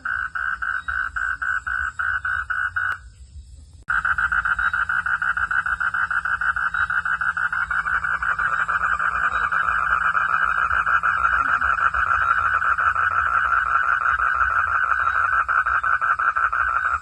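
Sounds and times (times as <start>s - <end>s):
frogs calling in chorus: 0.0s - 3.1s, 3.9s - 17.0s
low rumble: 0.0s - 15.0s.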